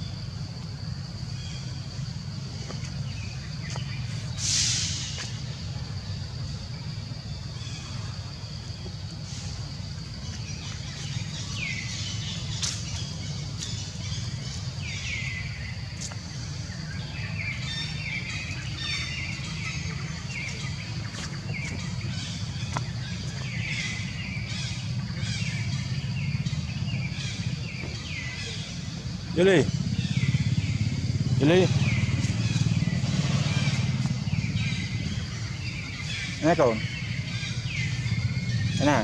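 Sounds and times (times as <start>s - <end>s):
birds calling: 0.0s - 39.0s.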